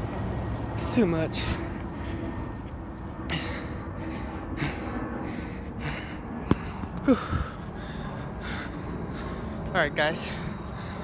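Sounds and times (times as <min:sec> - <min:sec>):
man panting heavily: 0:01.3 - 0:11.0.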